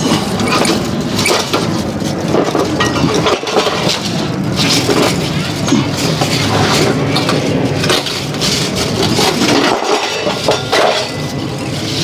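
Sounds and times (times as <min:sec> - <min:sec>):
scrap metal clattering and crunching: 0:00.0 - 0:12.0.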